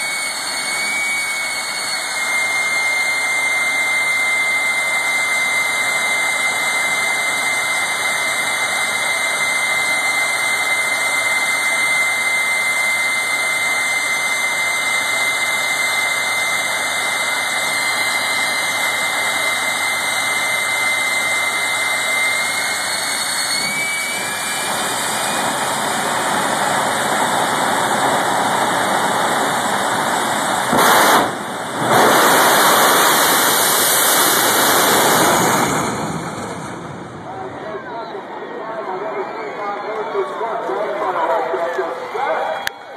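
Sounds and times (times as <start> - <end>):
jet engine blast: 0.0 - 42.8
jet engine whine: 0.0 - 42.9.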